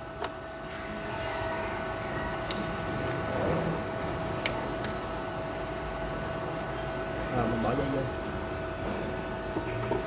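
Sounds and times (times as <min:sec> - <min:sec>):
small cooling fan humming: 0:00.0 - 0:10.0.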